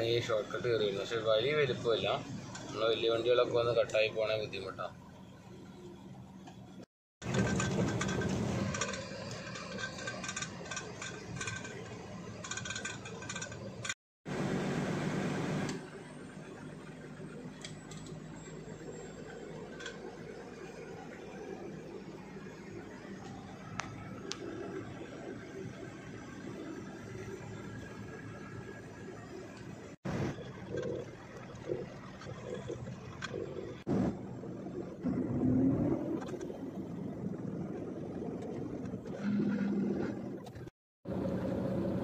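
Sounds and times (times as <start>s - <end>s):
lorry engine and road noise: 0.0s - 42.0s.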